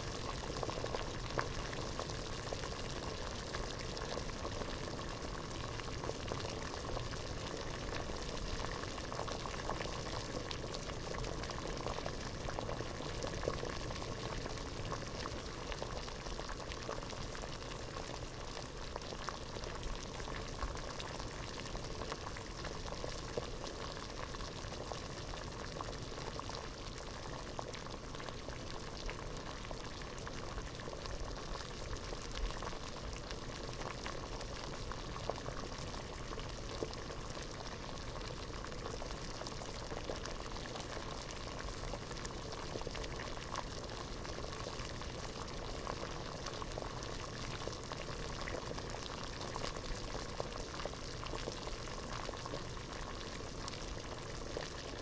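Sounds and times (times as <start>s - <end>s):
water boiling and bubbling: 0.0s - 55.0s.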